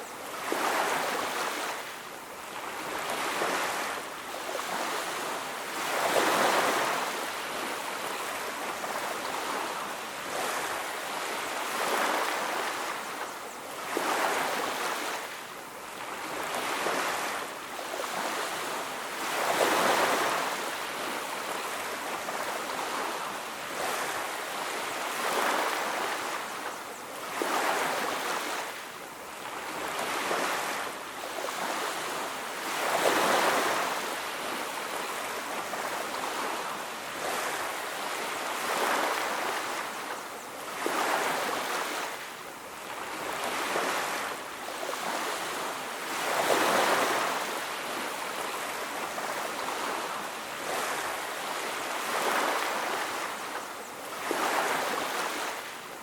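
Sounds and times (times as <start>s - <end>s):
ocean surf on beach: 0.0s - 56.0s.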